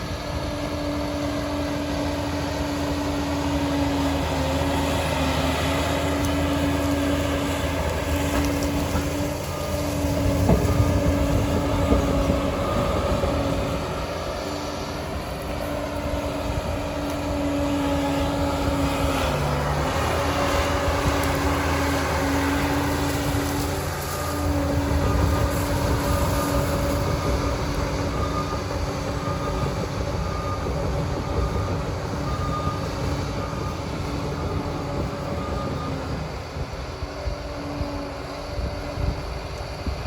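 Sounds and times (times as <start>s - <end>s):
bulldozer diesel drone: 0.0s - 40.0s.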